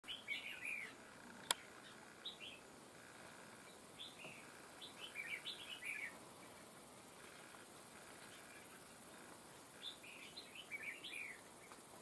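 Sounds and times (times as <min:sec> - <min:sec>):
bulbuls chirping: 0:00.0 - 0:12.0.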